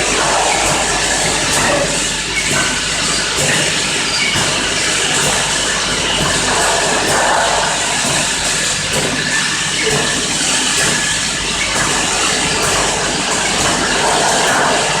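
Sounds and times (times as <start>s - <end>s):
filling machine running: 0.0s - 15.0s.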